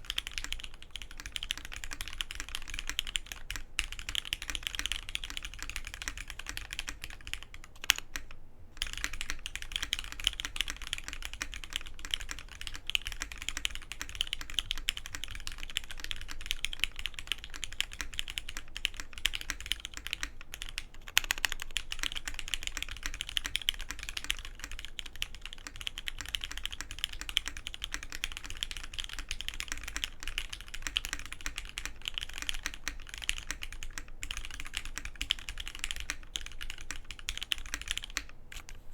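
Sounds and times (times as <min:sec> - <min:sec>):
fast typing on mechanical keyboard: 0:00.0 - 0:38.8.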